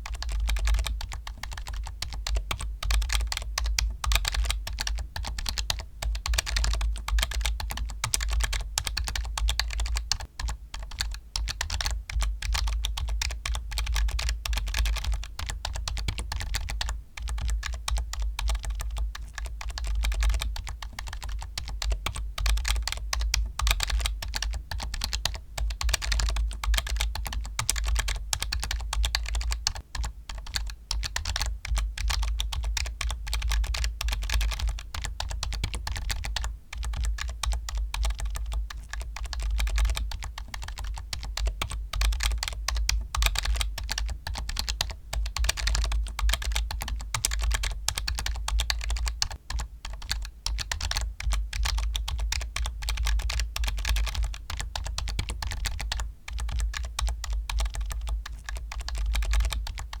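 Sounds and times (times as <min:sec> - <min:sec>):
fast keyboard typing: 0:00.0 - 1:00.0.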